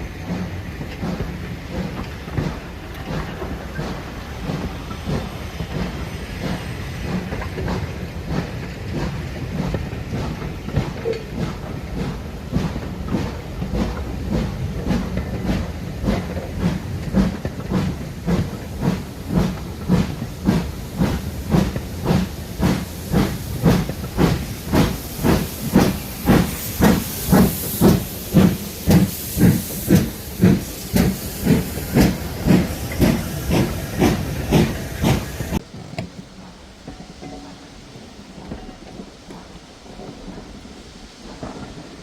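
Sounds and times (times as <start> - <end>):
steam hissing: 0.0 - 42.0
steam locomotive exhaust beats: 0.0 - 42.0.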